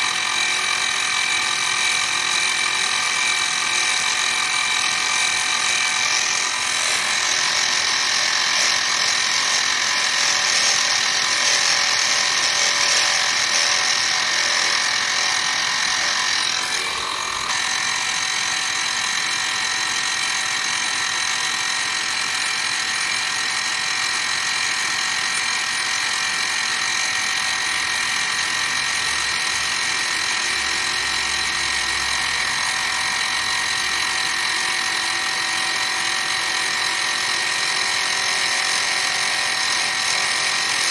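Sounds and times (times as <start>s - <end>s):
end mill cutting resin: 0.0s - 40.9s
milling machine spindle whine: 0.0s - 40.9s.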